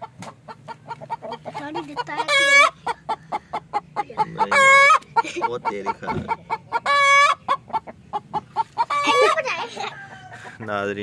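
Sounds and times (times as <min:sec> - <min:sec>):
hen cackling: 0:00.0 - 0:10.7
hen squawking: 0:00.5 - 0:10.6.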